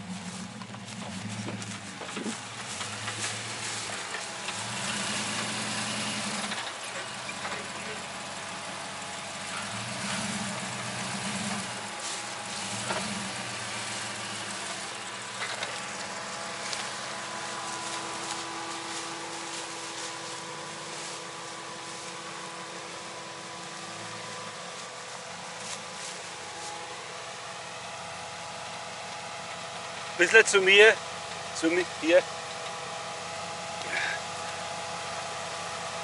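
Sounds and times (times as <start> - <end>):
pickup engine running at low revs: 0.0 - 36.0.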